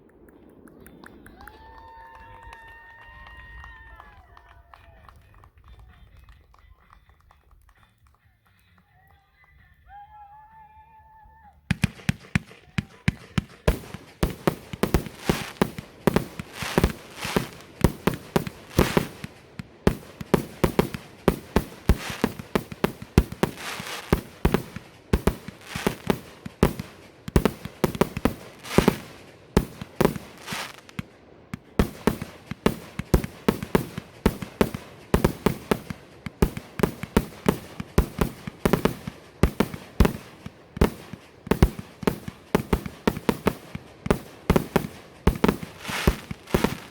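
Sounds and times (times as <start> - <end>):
fireworks bangs and cracks: 0.0 - 7.7, 11.7 - 46.9.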